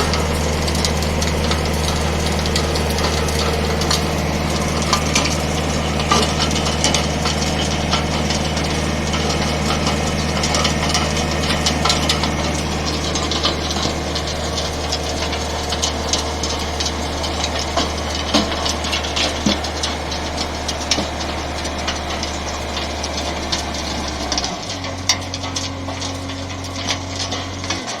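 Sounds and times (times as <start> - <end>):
skid steer engine running: 0.0 - 28.0.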